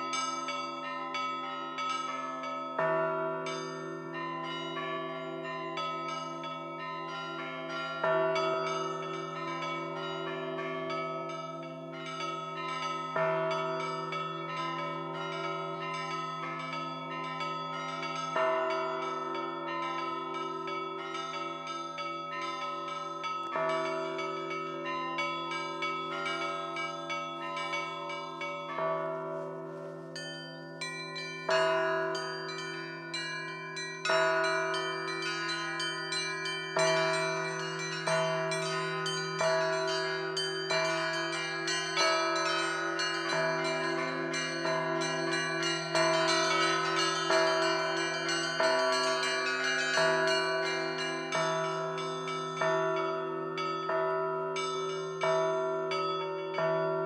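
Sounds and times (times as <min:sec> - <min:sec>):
large low church bell: 0:00.0 - 0:57.0
smaller bells ringing rapidly: 0:00.0 - 0:57.0.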